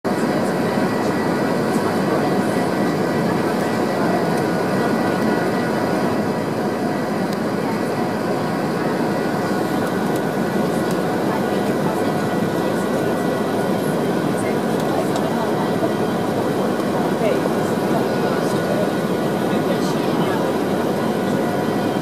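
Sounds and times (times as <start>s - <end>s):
airliner cabin engine rush: 0.1s - 22.0s.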